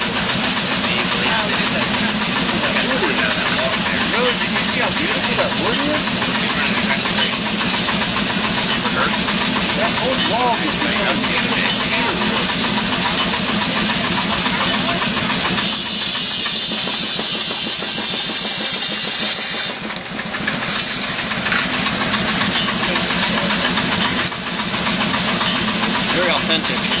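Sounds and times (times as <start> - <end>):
saw cutting through log: 0.0 - 27.0
sawmill engine running: 0.0 - 27.0.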